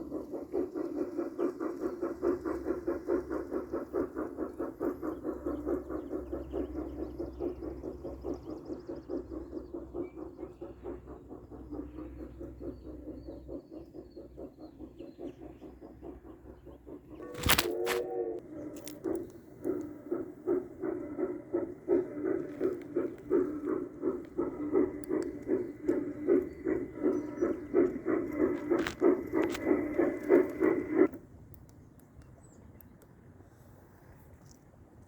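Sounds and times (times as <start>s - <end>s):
model train clattering: 0.0s - 32.3s.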